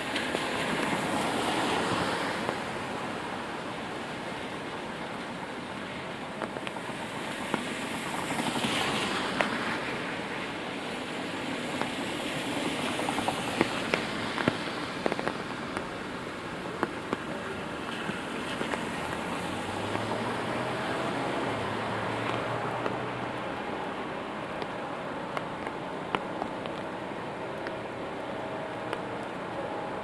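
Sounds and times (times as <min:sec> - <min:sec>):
raindrops tapping on umbrella: 0:00.0 - 0:03.3, 0:06.3 - 0:30.0
rainfall hiss: 0:00.0 - 0:30.0.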